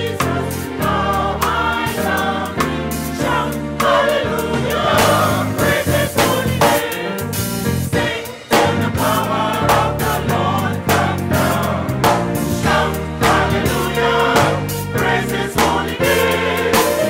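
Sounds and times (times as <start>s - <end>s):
gospel choir singing: 0.0s - 17.0s
instrumental backing with beat: 0.0s - 17.0s.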